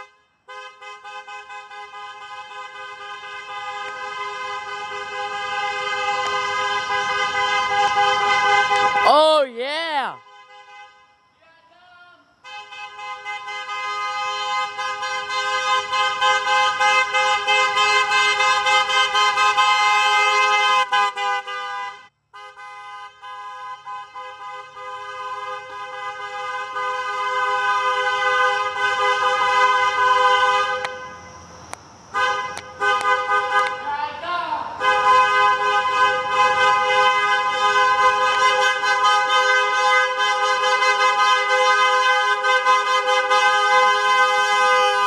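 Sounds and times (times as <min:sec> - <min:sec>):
car horns blasting: 0:00.0 - 0:09.1, 0:10.2 - 0:11.4, 0:12.4 - 0:31.3, 0:32.2 - 0:33.9, 0:34.8 - 0:45.0.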